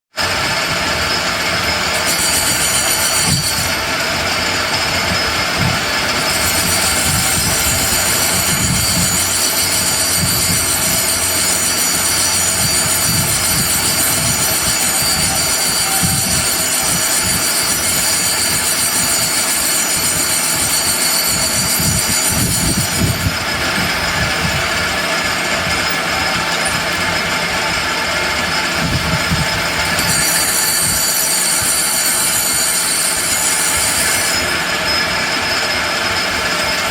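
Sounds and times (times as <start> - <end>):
high-pitched squealing whine: 0.2 - 36.9
lathe machining noise: 0.2 - 36.9.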